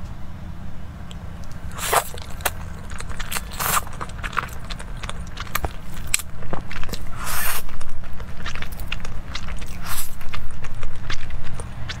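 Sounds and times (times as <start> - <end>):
noodle slurping: 1.1 - 12.0
wet mouth clicks: 1.1 - 12.0.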